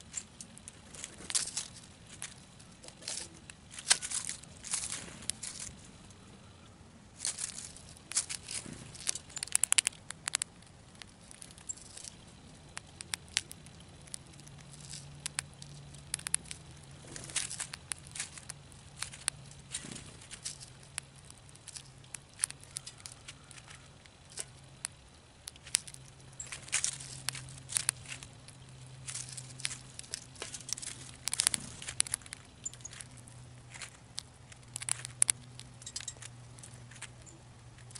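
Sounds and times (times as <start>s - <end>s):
squirrel cracking and chewing seed: 0.0s - 37.9s.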